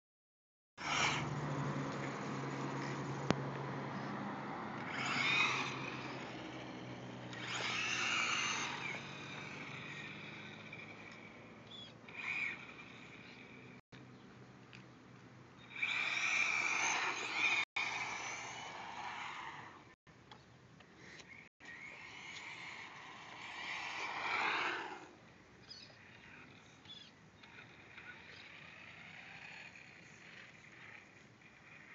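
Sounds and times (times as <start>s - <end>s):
electric motor and gears whining: 0.8s - 13.8s, 15.6s - 20.0s, 21.2s - 31.9s.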